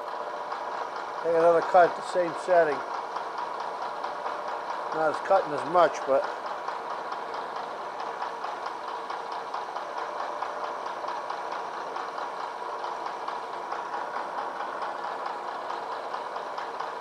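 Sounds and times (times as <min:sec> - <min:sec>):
milling machine cutting metal: 0:00.0 - 0:17.0.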